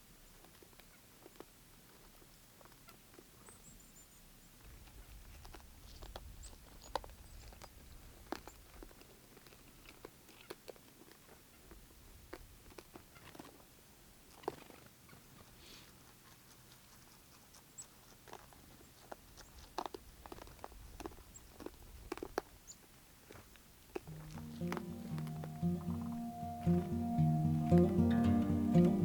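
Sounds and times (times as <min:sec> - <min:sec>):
animal feeding crunches: 0:00.2 - 0:03.4, 0:04.6 - 0:26.2.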